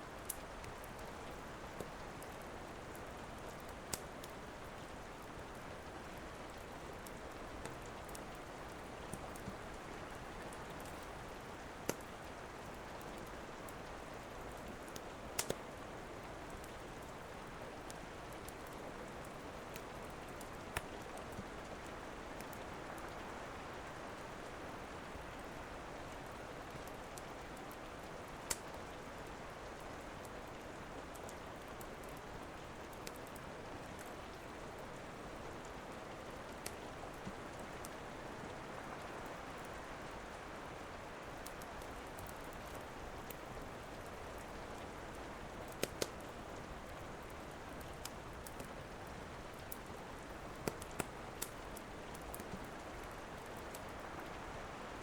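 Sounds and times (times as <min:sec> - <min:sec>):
steady rain falling: 0:00.0 - 0:55.0
wood fire crackling: 0:00.1 - 0:24.4, 0:26.2 - 0:54.8.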